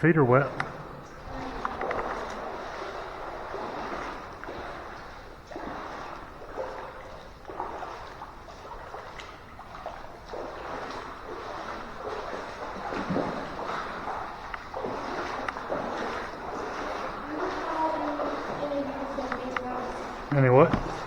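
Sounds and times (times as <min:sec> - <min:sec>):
footsteps wading through water: 0:00.1 - 0:21.0.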